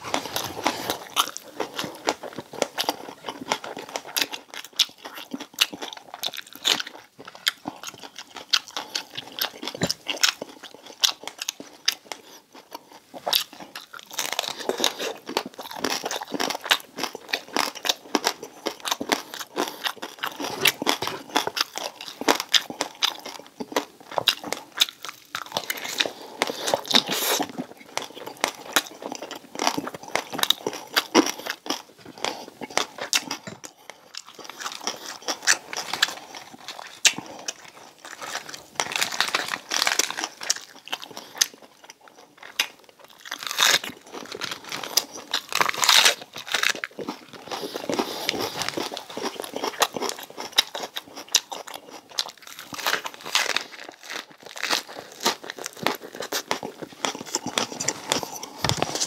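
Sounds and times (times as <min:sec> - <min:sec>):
crunching crispy food: 0:00.0 - 0:59.0.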